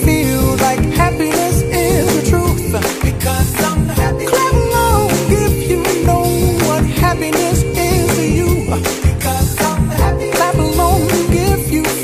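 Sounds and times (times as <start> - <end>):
person singing melody: 0.0 - 12.0
song with steady beat: 0.0 - 12.0.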